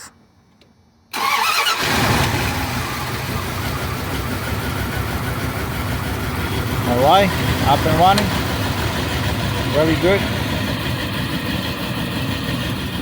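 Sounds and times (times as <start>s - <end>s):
pickup engine starting and idling: 1.1s - 13.0s.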